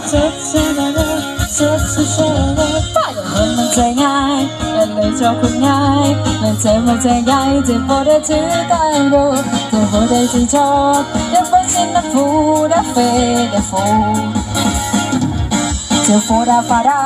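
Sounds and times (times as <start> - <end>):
woman singing: 0.0 - 14.5, 16.0 - 17.0
acoustic guitar: 0.0 - 17.0.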